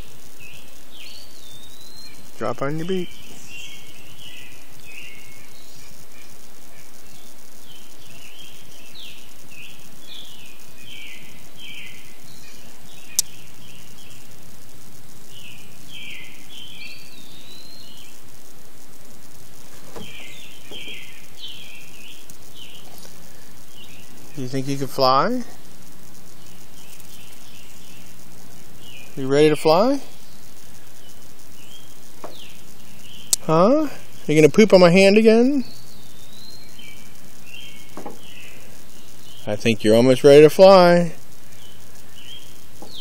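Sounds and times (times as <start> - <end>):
bird singing: 0.0 - 43.0
outdoor hiss: 0.0 - 43.0.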